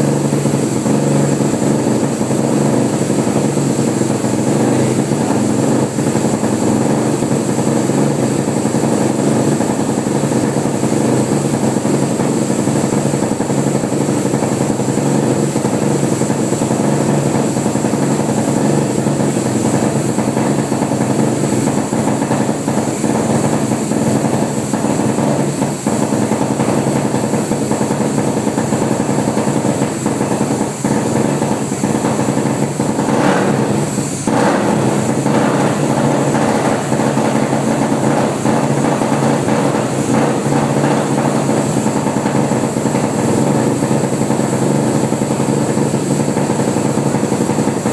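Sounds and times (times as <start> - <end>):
engine running at steady speed: 0.0 - 47.9.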